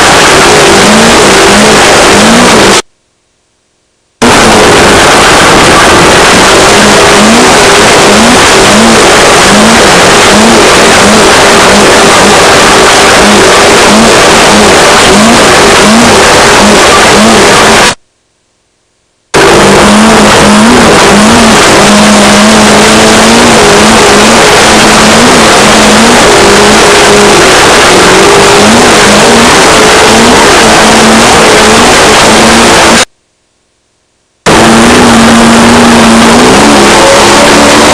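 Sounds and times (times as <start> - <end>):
race car engine revving: 0.0 - 2.8, 4.2 - 18.0, 19.4 - 33.1, 34.5 - 37.9.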